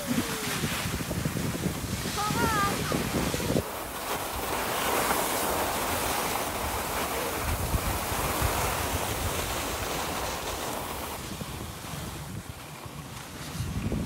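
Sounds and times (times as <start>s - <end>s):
skis hissing over snow: 0.0s - 14.0s
wind rumbling on microphone: 0.0s - 14.0s.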